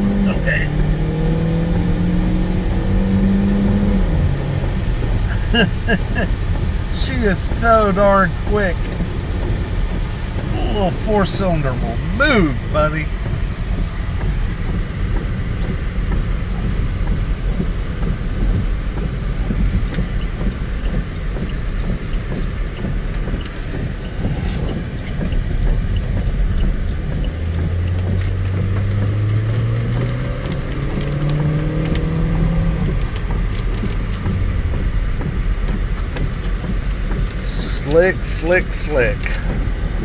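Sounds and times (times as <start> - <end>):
car engine accelerating: 0.0 - 40.0
road and wind noise in car: 0.0 - 40.0.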